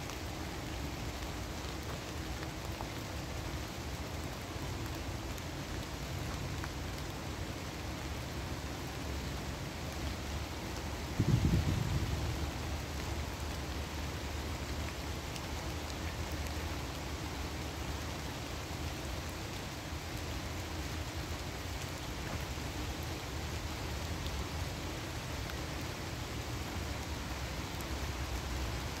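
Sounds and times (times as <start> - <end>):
rain falling through forest canopy: 0.0 - 29.0.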